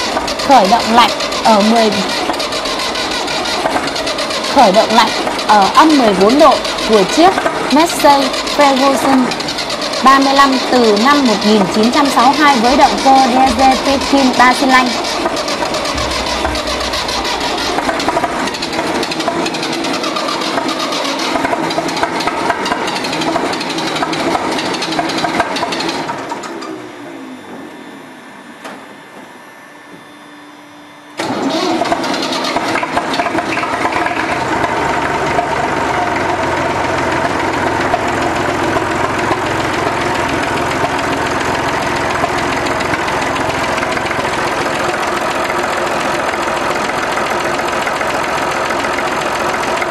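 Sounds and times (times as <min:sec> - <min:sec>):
diesel tractor engine running: 0:00.0 - 0:22.4, 0:31.2 - 0:49.9.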